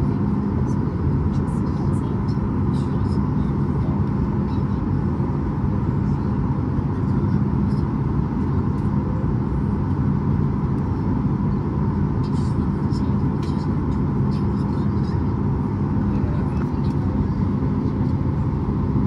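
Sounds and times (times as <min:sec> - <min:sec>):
aircraft cabin engine rumble: 0:00.0 - 0:19.0.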